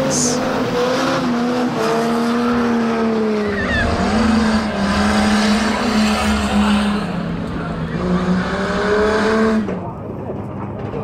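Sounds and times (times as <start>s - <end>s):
car engine at high revs: 0.0s - 10.0s
rumble of other engines: 0.0s - 11.0s.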